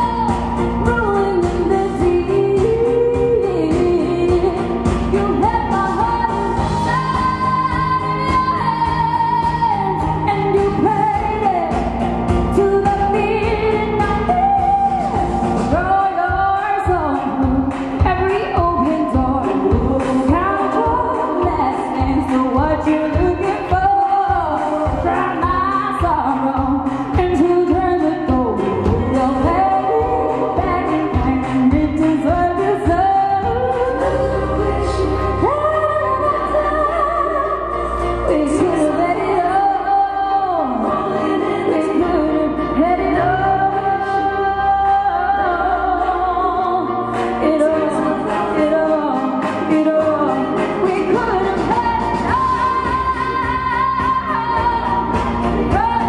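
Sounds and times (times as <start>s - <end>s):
woman singing into a microphone: 0.0s - 56.0s.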